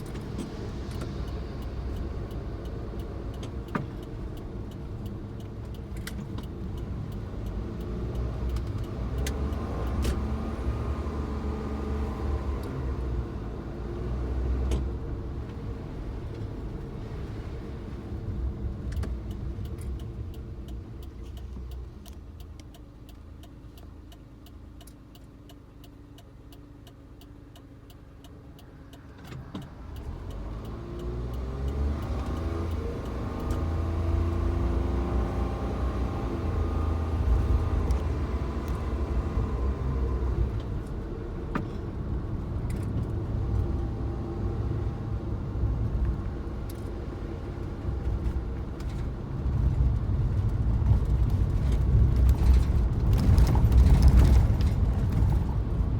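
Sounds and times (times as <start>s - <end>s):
car engine accelerating: 0.0s - 22.7s, 28.5s - 55.9s.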